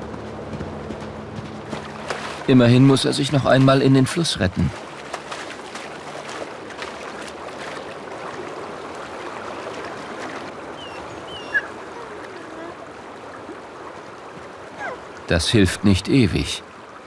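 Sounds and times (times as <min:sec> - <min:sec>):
elk splashing through water: 0:00.0 - 0:15.3
shallow river running: 0:00.0 - 0:17.0.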